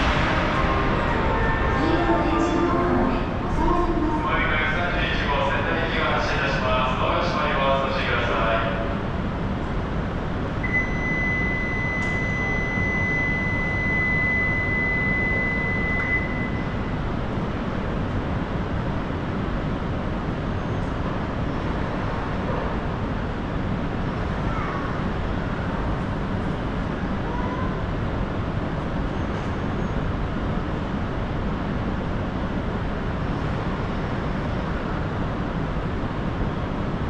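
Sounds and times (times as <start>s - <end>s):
steady rumbling noise: 0.0s - 37.0s.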